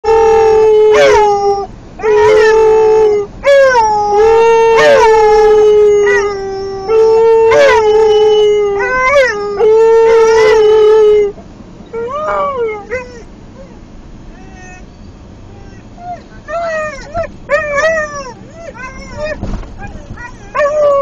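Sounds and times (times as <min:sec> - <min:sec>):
dog howling: 0:00.0 - 0:13.7, 0:15.6 - 0:21.0
dog yelping: 0:00.1 - 0:11.3, 0:11.9 - 0:13.8, 0:14.4 - 0:21.0.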